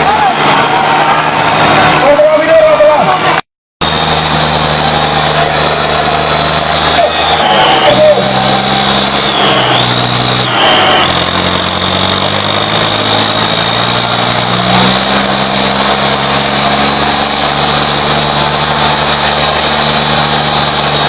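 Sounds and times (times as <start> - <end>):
tractor diesel engines running hard: 0.0 - 21.0
steady high whine: 3.8 - 21.0.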